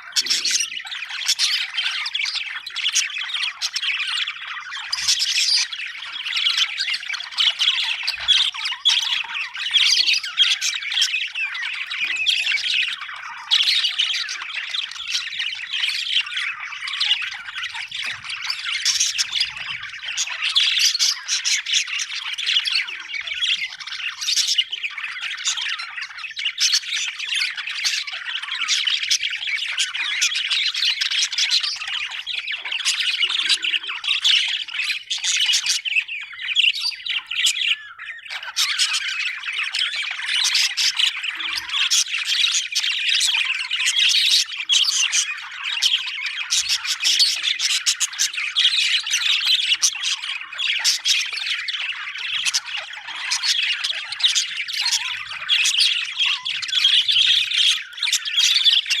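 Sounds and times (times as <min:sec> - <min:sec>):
budgerigars chirping and squawking: 0:00.0 - 0:59.0.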